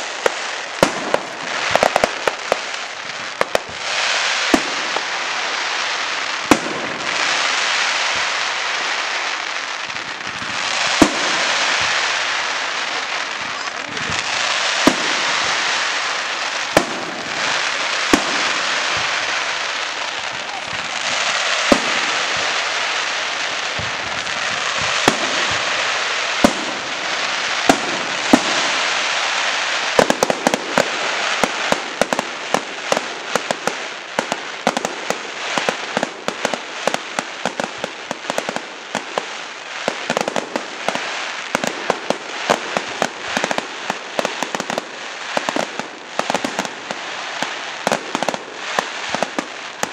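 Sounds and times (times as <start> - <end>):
firework bangs: 0.0 - 49.9
rapid firework crackle: 0.0 - 49.9.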